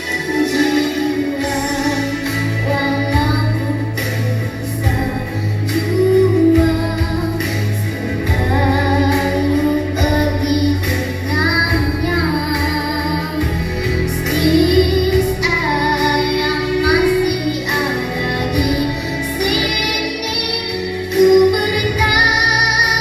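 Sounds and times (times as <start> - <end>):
backing track with bass and beat: 0.0 - 23.0
young woman singing: 0.0 - 23.0.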